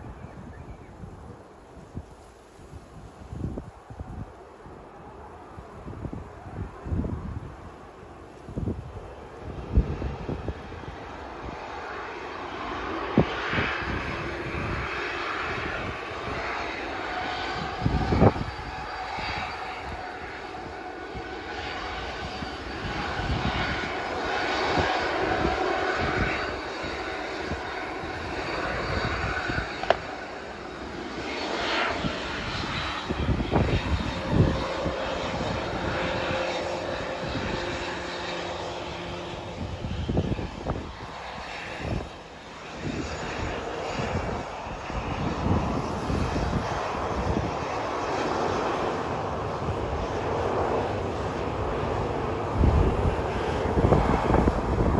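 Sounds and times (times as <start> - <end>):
jet engines roaring: 0.0 - 54.9
wind buffeting microphone: 0.0 - 54.9.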